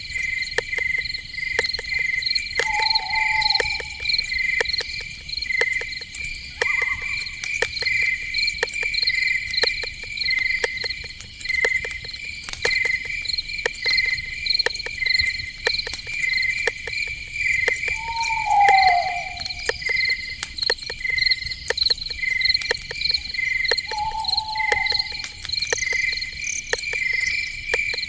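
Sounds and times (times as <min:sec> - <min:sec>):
crickets chirping: 0:00.0 - 0:28.0
sharp clicks: 0:00.5 - 0:28.0.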